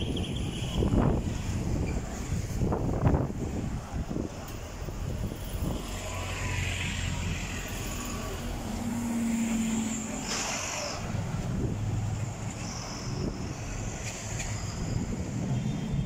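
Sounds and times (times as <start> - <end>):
bus engines passing: 0.0 - 16.0
city street traffic: 0.0 - 16.0.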